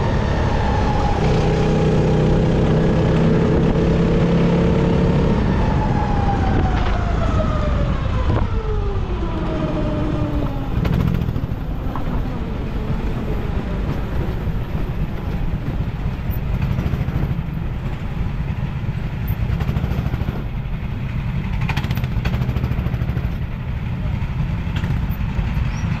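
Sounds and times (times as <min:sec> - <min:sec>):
kart engine: 0:00.0 - 0:26.0.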